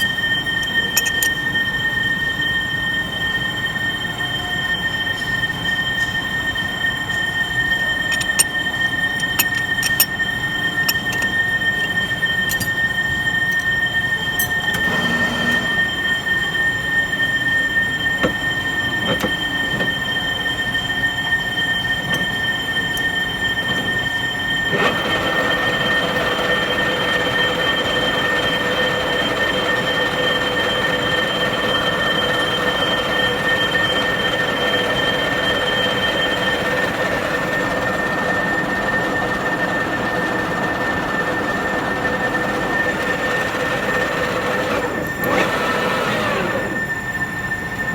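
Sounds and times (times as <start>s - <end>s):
lathe whining: 0.0s - 47.9s.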